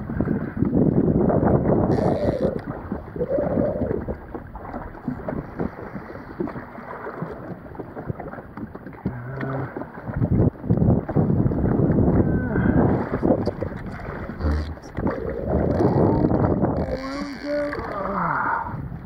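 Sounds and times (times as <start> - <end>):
water slapping against hull: 0.0 - 19.0
wind buffeting microphone: 0.0 - 19.0.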